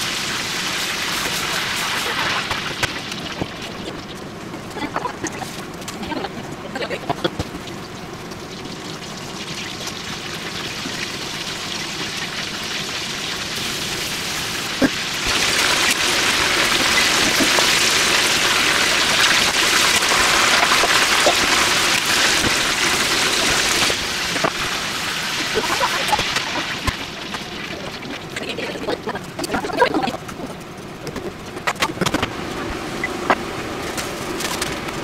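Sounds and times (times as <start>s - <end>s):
food deep-frying in oil: 0.0s - 30.6s.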